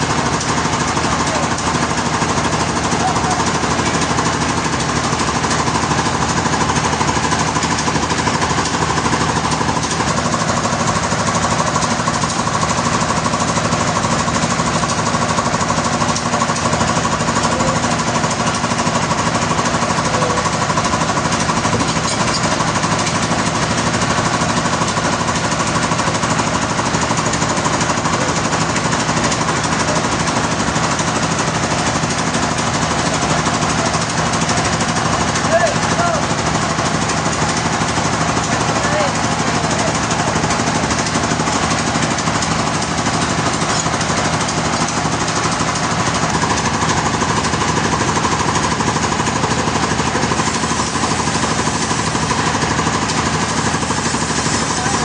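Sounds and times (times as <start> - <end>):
sawmill log saw running: 0.0 - 55.0.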